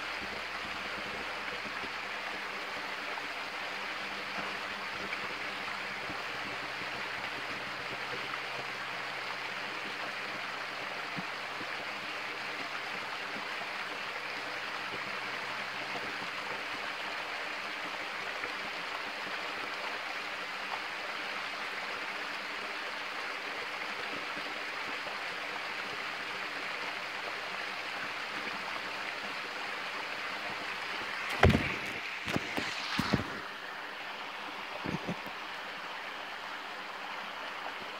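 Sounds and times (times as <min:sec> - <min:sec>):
stream water flowing: 0:00.0 - 0:37.9.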